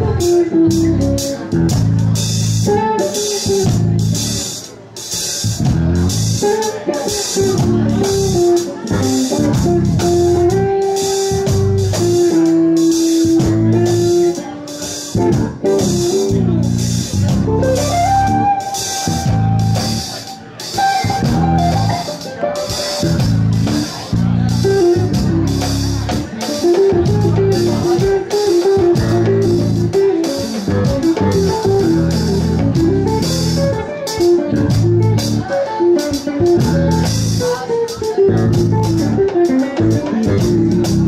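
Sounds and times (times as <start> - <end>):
bass: 0.0 - 41.0
drum kit cymbal pattern: 0.0 - 41.0
electric guitar melody: 0.0 - 41.0.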